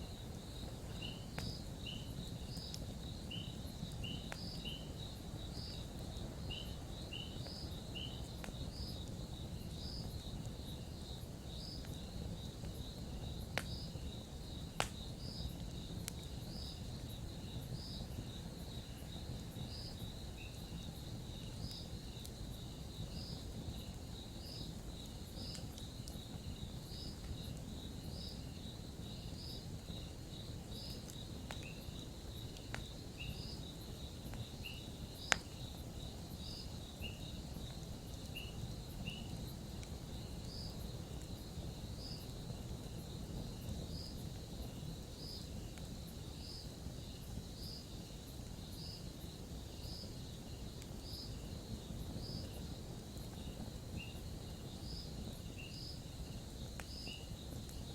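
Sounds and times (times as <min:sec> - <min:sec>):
campfire burning: 0:00.0 - 0:57.9
crickets chirping: 0:00.0 - 0:57.9
fire crackling pops: 0:00.0 - 0:57.9.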